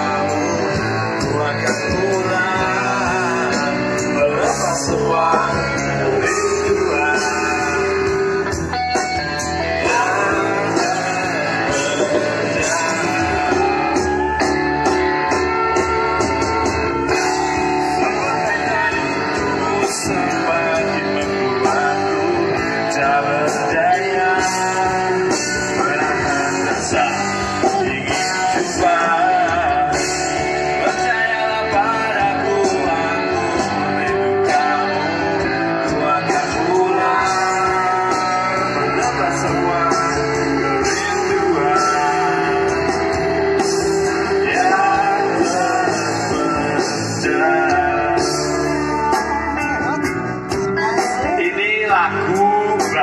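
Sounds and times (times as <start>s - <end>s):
drum kit: 0.0s - 53.0s
electric guitars: 0.0s - 53.0s
person singing: 0.0s - 53.0s.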